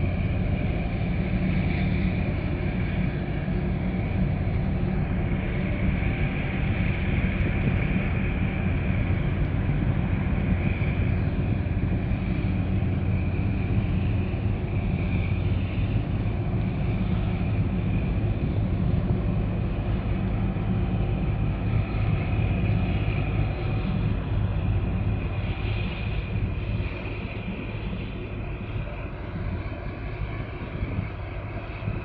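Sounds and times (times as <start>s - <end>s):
low ship engine rumble: 0.0s - 32.0s.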